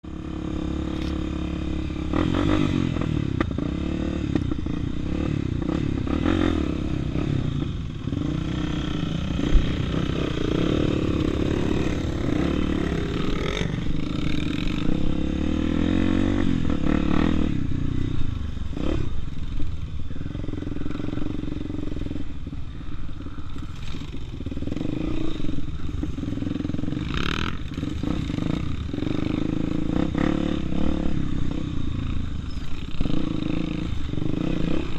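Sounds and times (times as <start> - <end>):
motorcycle engine revving under load: 0.1 - 34.9.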